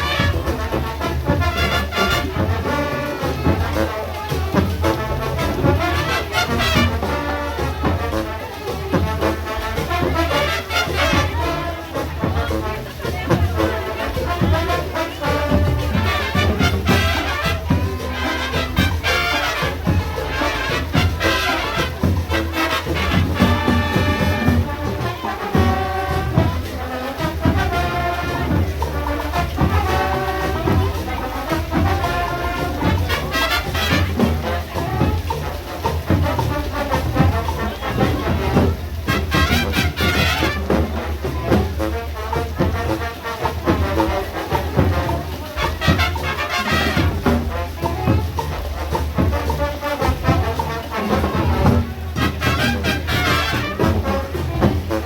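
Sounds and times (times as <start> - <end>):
marching band playing latin music: 0.0 - 55.0
steady drum beat: 0.0 - 55.0.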